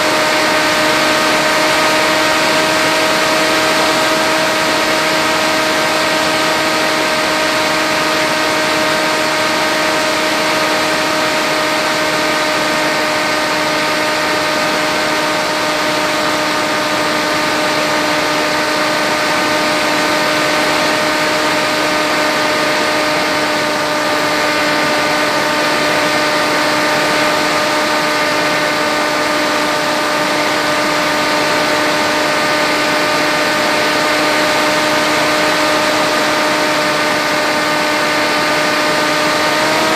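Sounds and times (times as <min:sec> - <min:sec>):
electric motor droning whine: 0:00.0 - 0:39.9.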